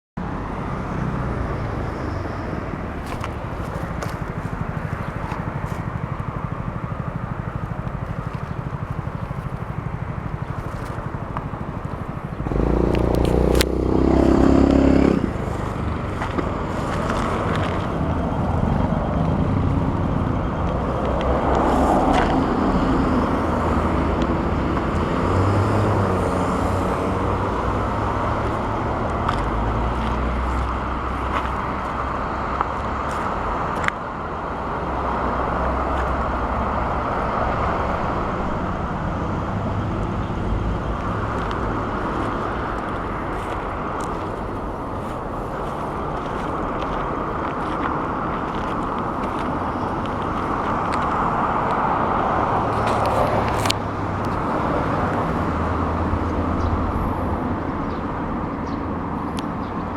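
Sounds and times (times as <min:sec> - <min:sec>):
loud vehicle passing: 0:00.2 - 0:59.9
road traffic passing: 0:00.2 - 0:59.9.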